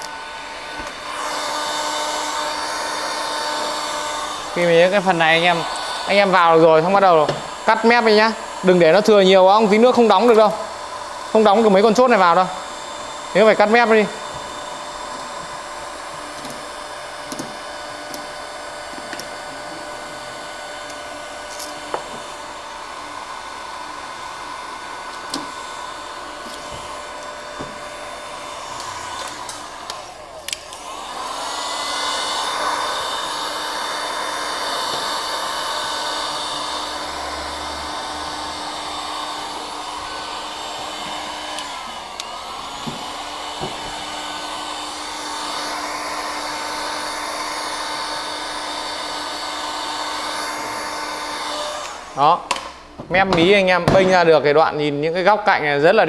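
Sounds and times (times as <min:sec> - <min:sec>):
heat gun blowing: 0:00.0 - 0:54.3.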